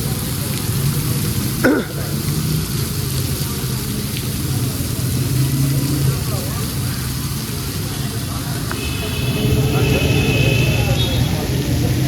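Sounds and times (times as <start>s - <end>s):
heavy rain hissing: 0.0s - 12.0s
vehicle engines idling: 0.0s - 12.0s.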